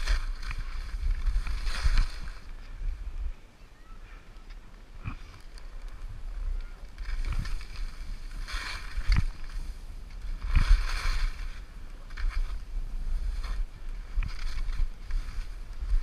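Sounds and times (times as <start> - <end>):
skis scraping on snow: 0.0 - 3.0, 5.1 - 16.0
wind rumble on microphone: 0.0 - 16.0.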